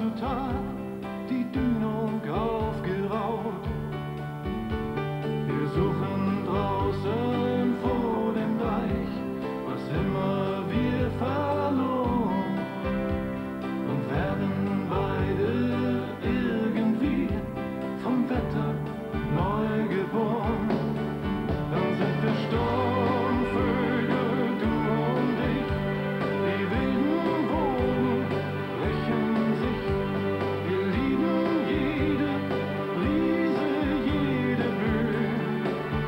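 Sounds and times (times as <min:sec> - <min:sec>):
man singing ballad with band: 0:00.0 - 0:36.0.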